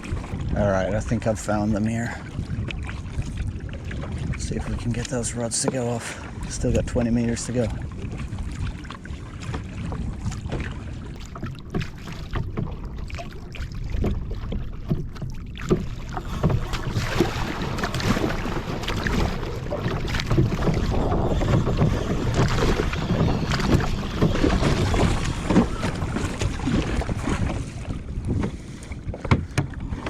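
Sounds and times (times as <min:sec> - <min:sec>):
water splashing against kayak hull: 0:00.0 - 0:30.0
wind rumbling on microphone: 0:00.0 - 0:30.0.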